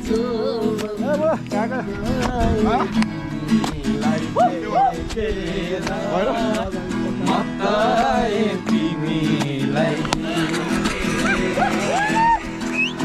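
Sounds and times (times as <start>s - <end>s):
song with singing and guitar: 0.0s - 13.0s.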